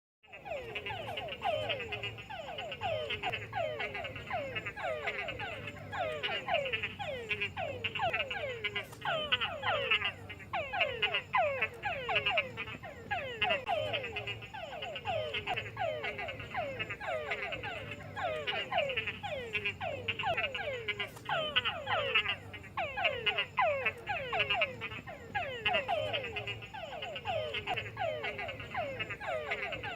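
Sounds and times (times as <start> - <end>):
frogs croaking: 0.2 - 29.9.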